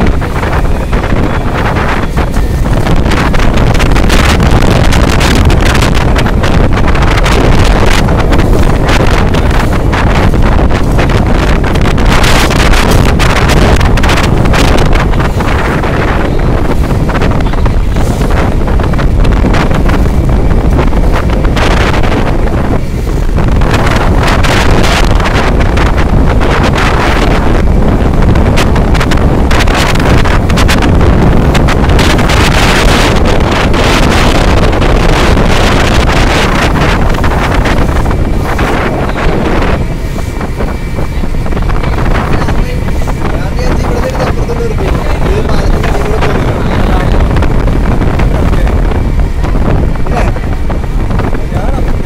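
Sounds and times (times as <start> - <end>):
boat engine running: 0.0 - 52.0
storm wind buffeting microphone: 0.0 - 52.0.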